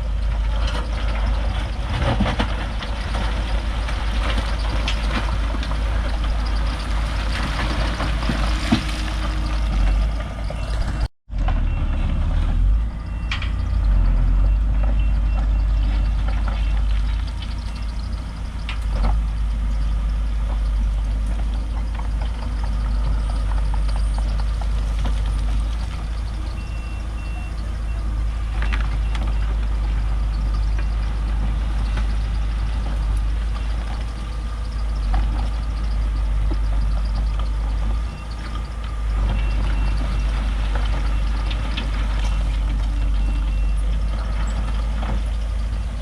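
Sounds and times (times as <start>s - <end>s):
bulldozer diesel engine: 0.0s - 46.0s
reversing alarm beeping: 4.5s - 46.0s.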